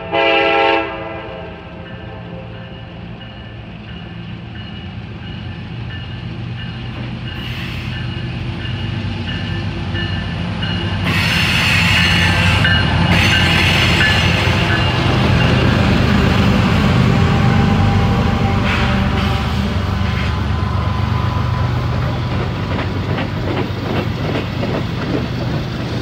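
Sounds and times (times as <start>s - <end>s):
diesel locomotive engines rumbling: 0.0s - 26.0s
train wheel noise: 1.6s - 26.0s.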